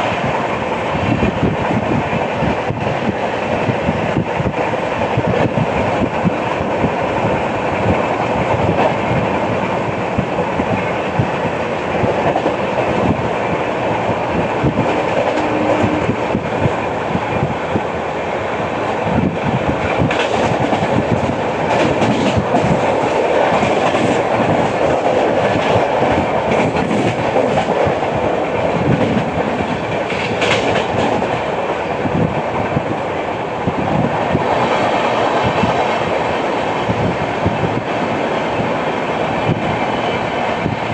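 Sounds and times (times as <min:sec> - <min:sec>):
train wheels clattering on rails: 0:00.0 - 0:40.9
train squeaks and crackles: 0:00.9 - 0:17.8, 0:18.8 - 0:32.9, 0:33.7 - 0:40.9.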